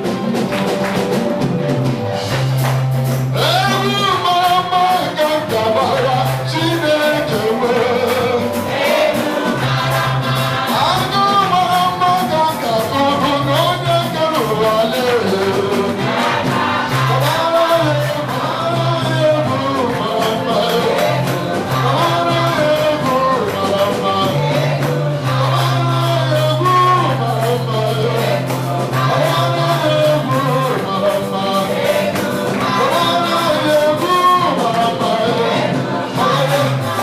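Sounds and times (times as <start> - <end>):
band playing gospel music: 0.0 - 37.0
busy percussion: 0.0 - 37.0
voices singing: 3.3 - 37.0.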